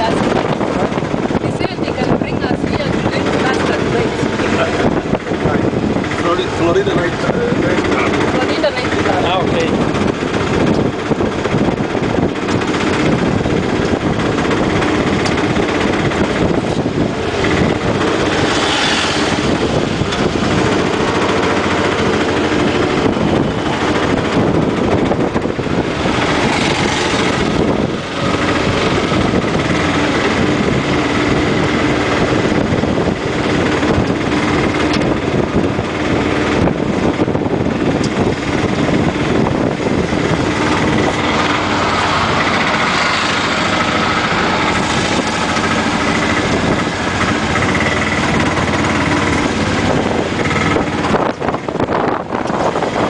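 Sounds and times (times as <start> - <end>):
auto-rickshaw engine running: 0.0 - 53.0.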